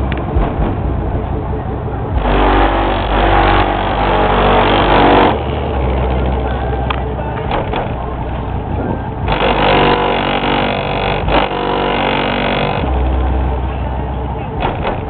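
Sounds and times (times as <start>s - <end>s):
bass-heavy music from car audio: 0.0s - 15.0s.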